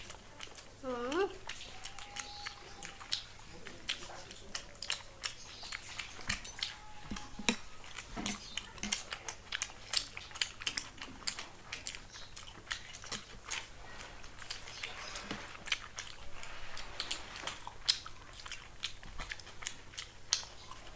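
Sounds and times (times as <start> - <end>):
people chewing with wet mouth smacks: 0.0 - 20.9.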